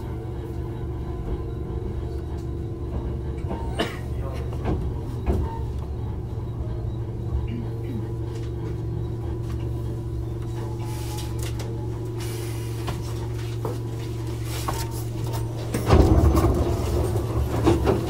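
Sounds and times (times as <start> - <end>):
train electrical hum: 0.0 - 18.0.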